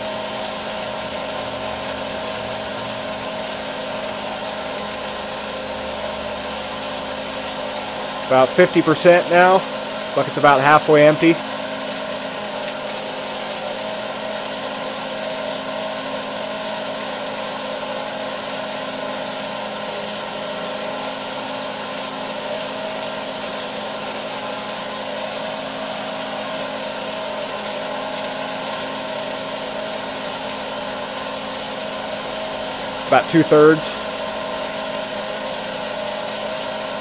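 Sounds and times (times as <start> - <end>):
electric water pump humming: 0.0 - 37.0.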